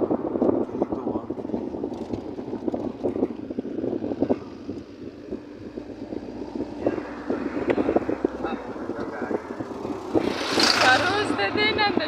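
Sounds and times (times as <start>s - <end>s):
car engine and road noise: 0.0s - 12.0s
wind on microphone: 0.0s - 12.0s.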